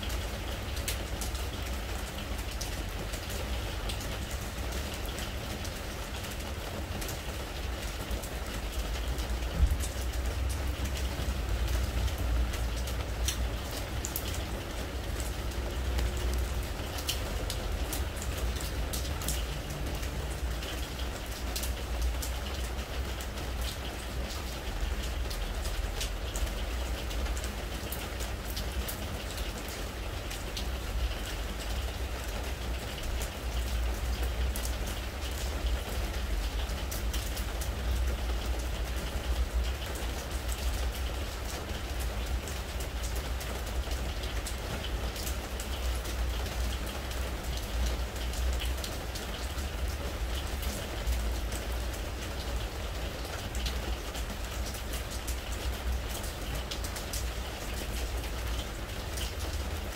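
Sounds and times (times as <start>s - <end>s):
rain on a wooden deck: 0.0s - 59.9s.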